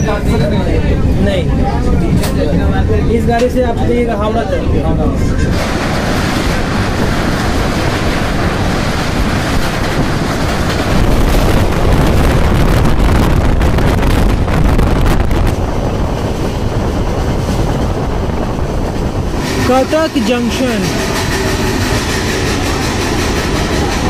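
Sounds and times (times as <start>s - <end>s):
train rumbling: 0.0s - 24.0s
wind buffeting microphone: 0.0s - 24.0s.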